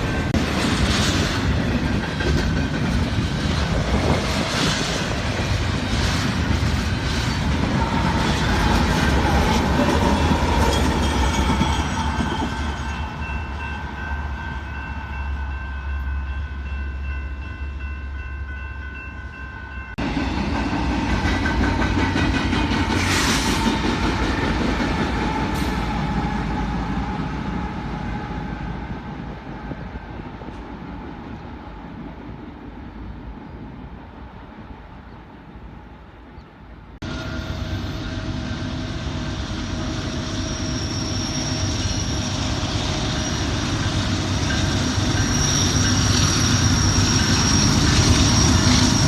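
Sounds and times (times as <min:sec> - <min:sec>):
freight train passing: 0:00.0 - 0:49.0.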